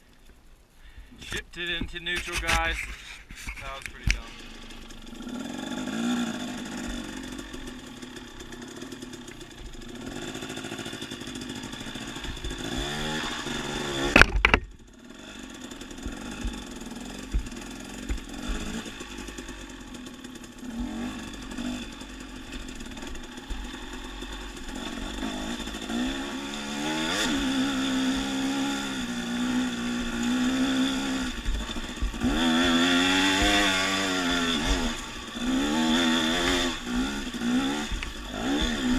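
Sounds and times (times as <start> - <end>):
dirt bike engine revving: 1.3 - 38.9.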